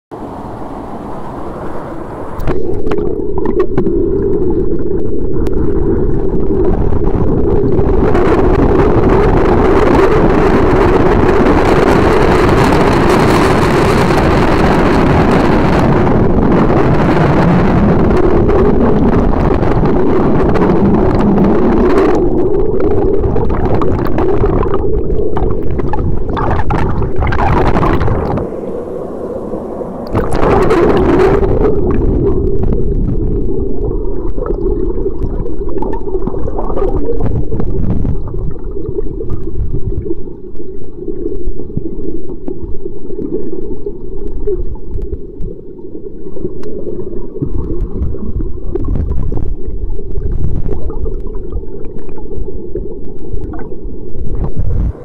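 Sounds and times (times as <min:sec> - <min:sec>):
muffled underwater water rush: 0:00.1 - 0:55.0
bubbly crackles: 0:02.4 - 0:55.0.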